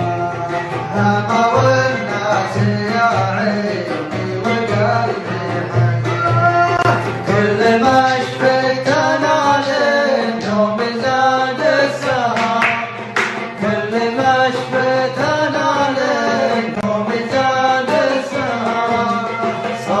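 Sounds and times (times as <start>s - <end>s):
plucked string accompaniment: 0.0s - 20.0s.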